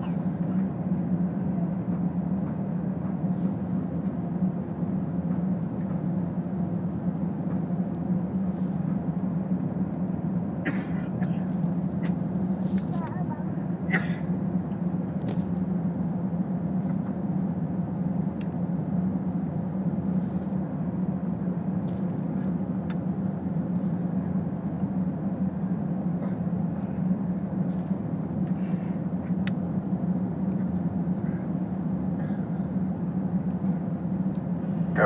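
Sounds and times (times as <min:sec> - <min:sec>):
jet engines droning: 0:00.0 - 0:35.0.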